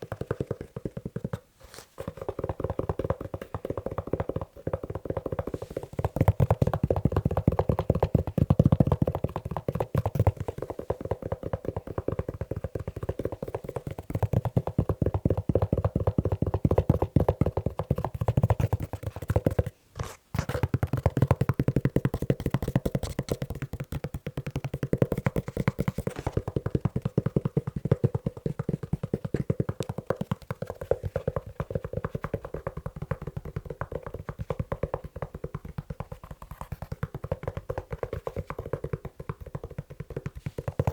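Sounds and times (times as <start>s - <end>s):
fast tapping on leather shoe: 0.0s - 19.7s, 20.4s - 40.9s.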